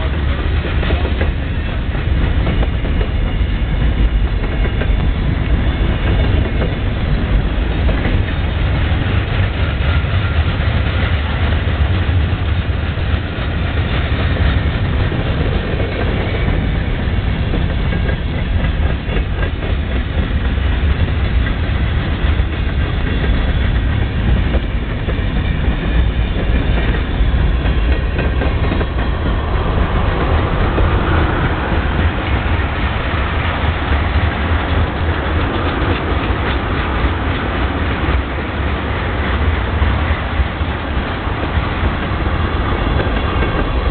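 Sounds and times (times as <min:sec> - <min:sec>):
wheels clicking over rail joints: 0:00.0 - 0:40.2, 0:40.9 - 0:43.9
freight train rumbling past: 0:00.0 - 0:43.9.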